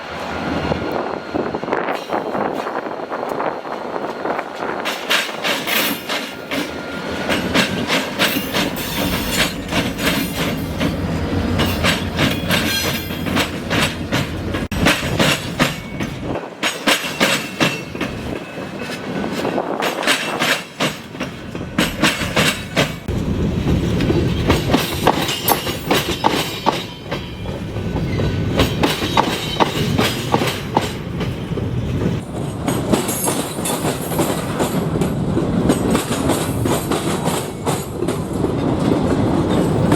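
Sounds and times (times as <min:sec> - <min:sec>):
train low rumble: 0:00.0 - 0:39.9
train wheels clattering: 0:01.8 - 0:39.9.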